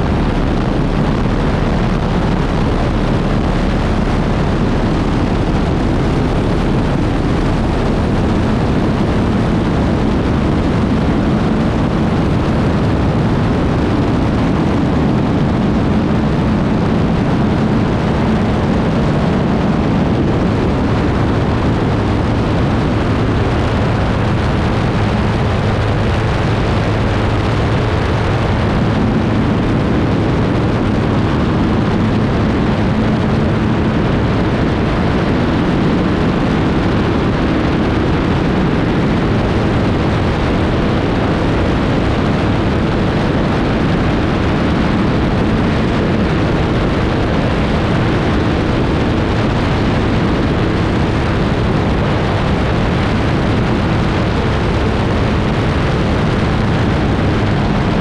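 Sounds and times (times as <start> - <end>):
rushing air: 0.0 - 58.0
turboprop engine roaring: 0.0 - 58.0.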